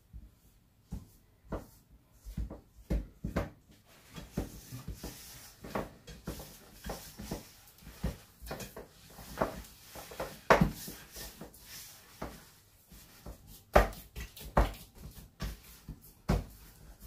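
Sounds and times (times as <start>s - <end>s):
hands kneading dough: 0.0s - 17.0s.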